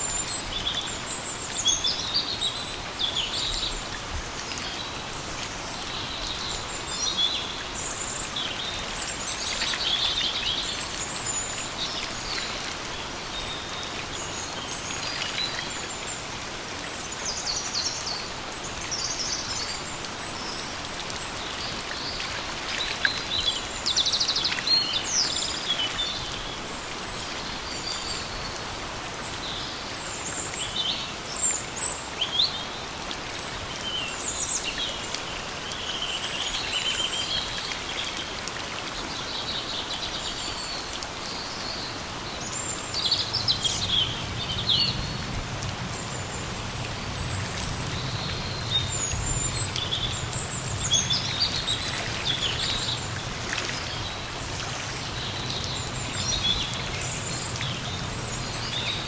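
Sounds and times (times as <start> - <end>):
rain falling in forest: 0.0 - 59.0.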